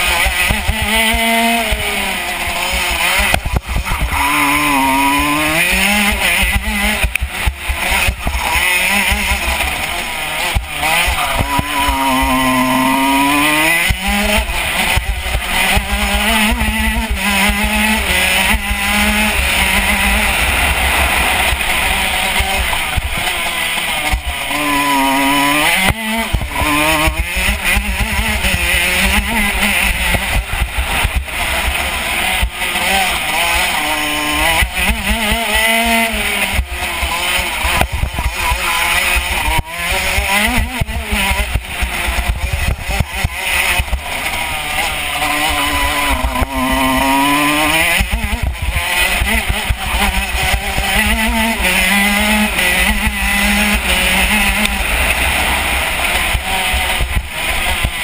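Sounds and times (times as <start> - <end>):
two-stroke kart engine revving: 0.0 - 58.0.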